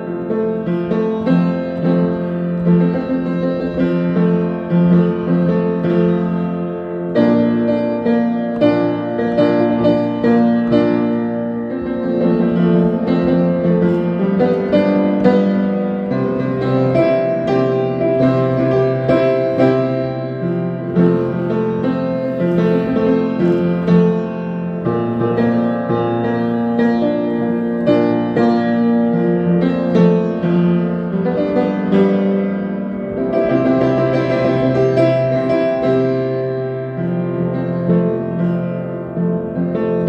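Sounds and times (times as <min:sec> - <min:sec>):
piano keyboard chords and melody: 0:00.0 - 0:40.0.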